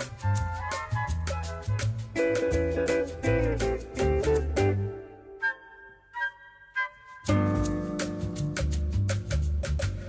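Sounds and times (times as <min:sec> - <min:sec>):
background music with bass: 0:00.0 - 0:05.3, 0:07.2 - 0:10.0.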